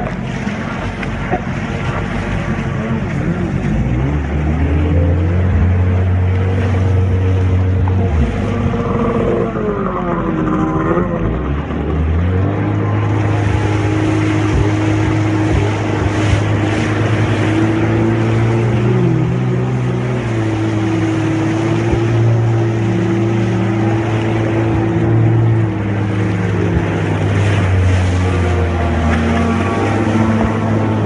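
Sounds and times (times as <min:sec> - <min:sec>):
jet ski engine running: 0:00.0 - 0:31.0.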